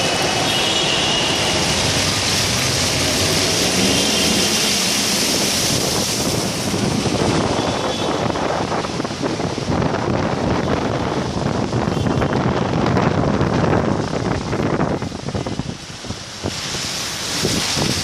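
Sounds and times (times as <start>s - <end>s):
heavy rain: 0.0s - 18.0s
rushing water: 0.0s - 18.0s
wind buffeting microphone: 1.4s - 18.0s.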